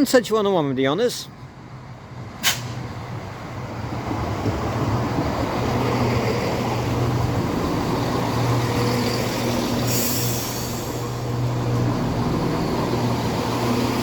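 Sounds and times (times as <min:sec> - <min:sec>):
diesel train engines droning: 0:00.0 - 0:14.0.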